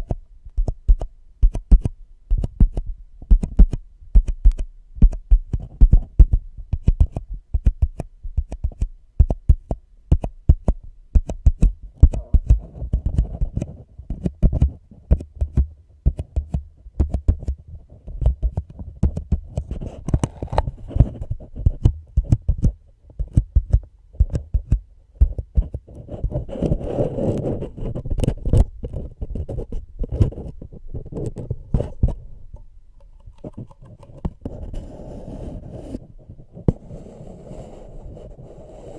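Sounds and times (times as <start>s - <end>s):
rubbing and scratching: 0.0s - 8.9s, 9.6s - 38.4s.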